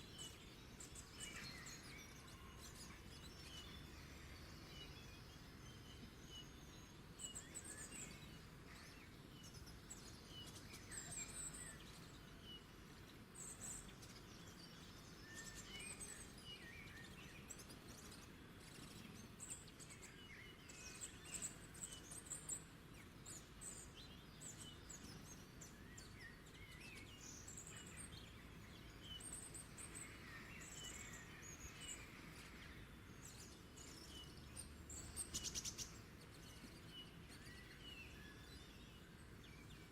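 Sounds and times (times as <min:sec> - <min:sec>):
birds chirping and trilling: 0:00.0 - 0:39.9
outdoor ambience hum: 0:00.0 - 0:39.9.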